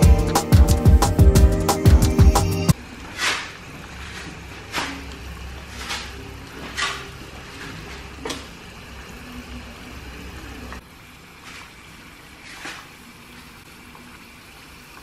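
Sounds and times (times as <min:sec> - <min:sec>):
oil bubbling and sizzling: 0:02.7 - 0:15.0.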